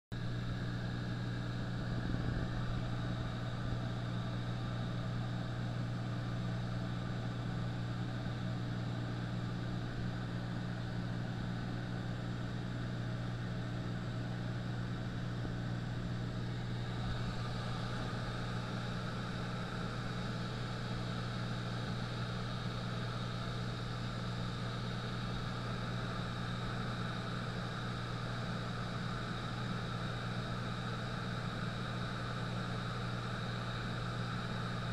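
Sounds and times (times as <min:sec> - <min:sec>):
light aircraft engine drone: 0:00.1 - 0:34.9.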